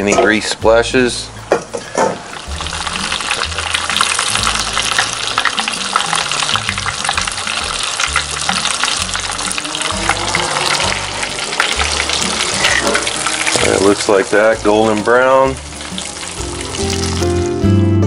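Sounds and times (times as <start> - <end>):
fish deep-frying in hot oil: 2.1 - 17.5.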